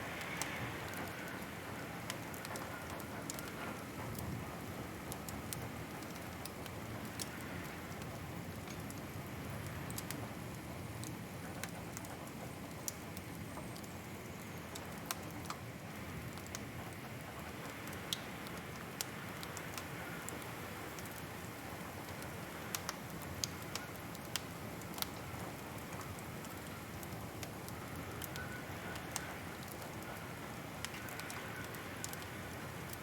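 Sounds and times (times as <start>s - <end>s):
wood fire crackling in fireplace: 0.0s - 33.0s.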